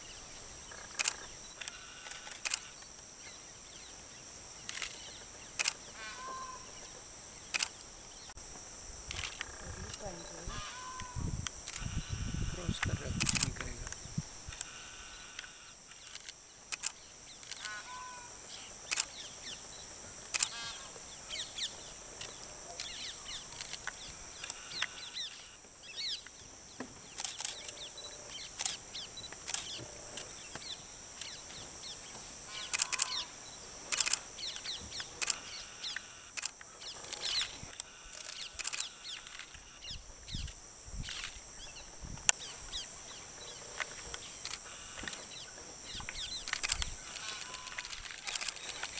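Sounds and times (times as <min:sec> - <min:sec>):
steady high-pitched hum: 0:00.0 - 0:48.9.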